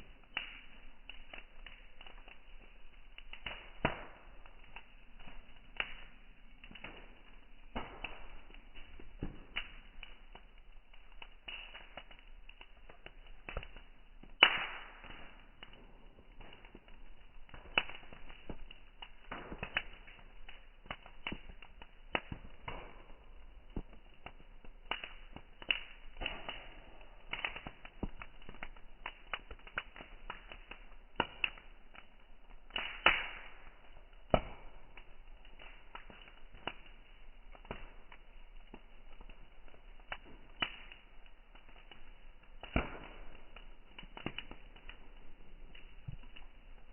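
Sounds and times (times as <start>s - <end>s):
bonfire crackling: 0.0s - 46.9s.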